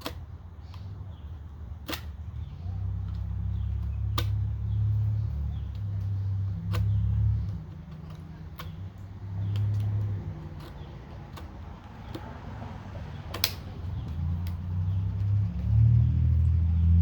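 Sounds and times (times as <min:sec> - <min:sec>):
knife cutting wood clicks: 0:00.0 - 0:15.8.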